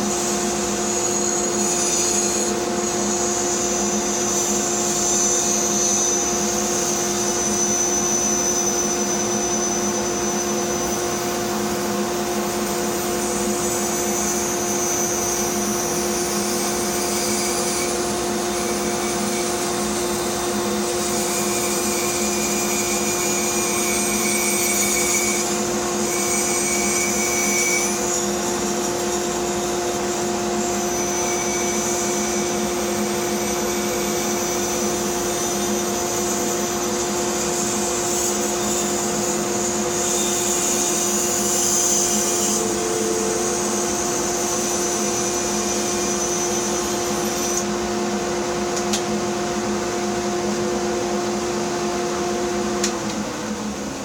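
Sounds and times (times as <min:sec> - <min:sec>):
saw cutting wood hiss: 0:00.0 - 0:47.8
bandsaw motor hum: 0:00.0 - 0:54.0.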